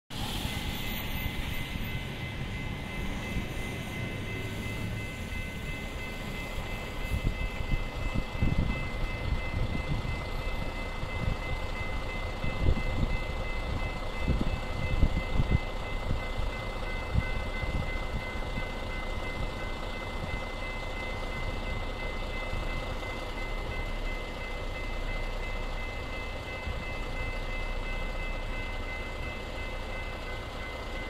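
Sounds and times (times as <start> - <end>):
railway crossing bell ringing: 0.4 - 31.0.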